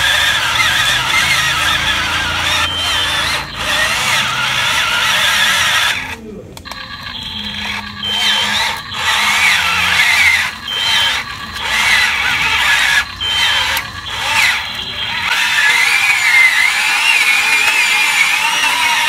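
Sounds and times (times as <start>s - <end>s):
toy truck electric motors whining: 0.0s - 19.0s.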